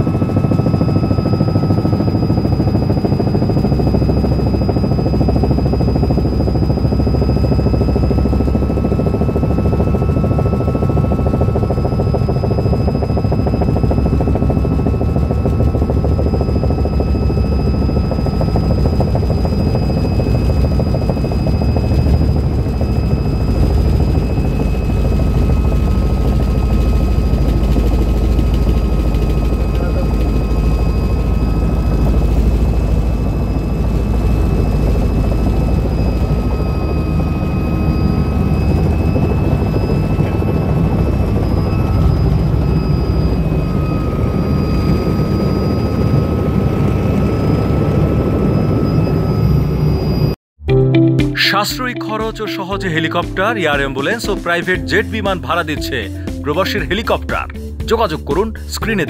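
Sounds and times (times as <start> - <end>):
helicopter rotor and engine throb: 0.0 - 50.4, 52.2 - 59.0
high whine: 0.0 - 59.0.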